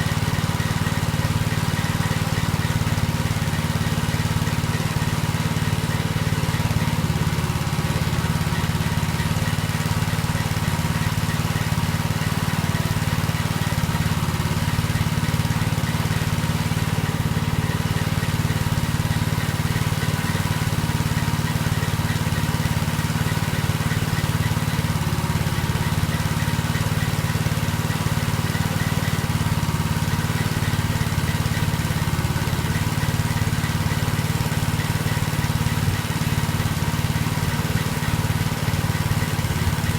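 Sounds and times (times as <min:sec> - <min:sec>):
small motorcycle engine idling: 0:00.0 - 0:39.9.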